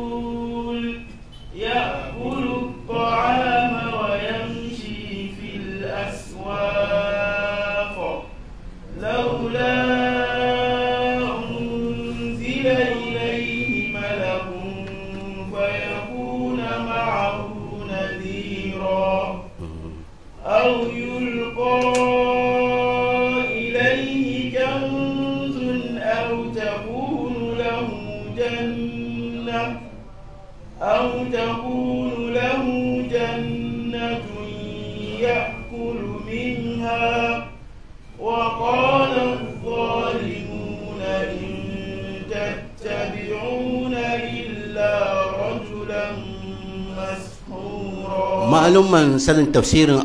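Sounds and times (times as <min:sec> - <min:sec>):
man chanting melodically: 0:00.0 - 0:50.0.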